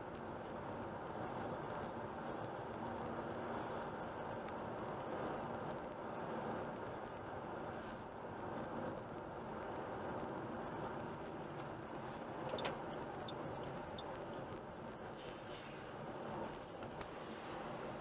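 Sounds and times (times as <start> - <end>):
car road noise from inside: 0.0 - 18.0.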